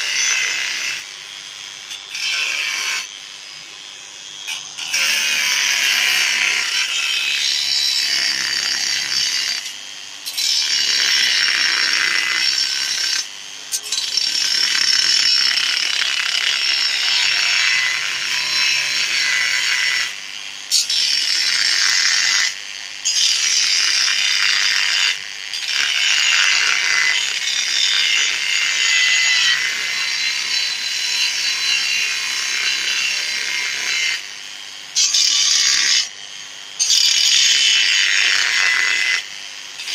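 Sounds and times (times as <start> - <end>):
angle grinder cutting metal: 0.0 - 39.9.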